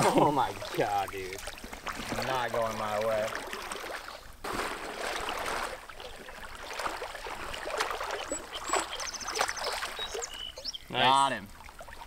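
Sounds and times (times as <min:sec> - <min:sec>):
fish thrashing splashes: 0:00.0 - 0:10.6
river water sloshing: 0:00.0 - 0:12.0.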